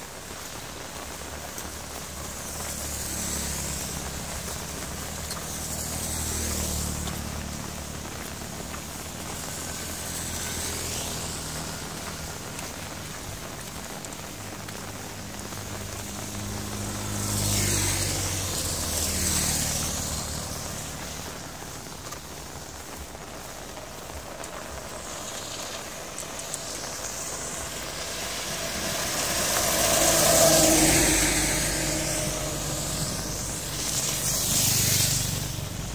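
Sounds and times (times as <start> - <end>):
tyres hissing on wet road: 0.0 - 35.9
low engine hum: 0.4 - 35.9.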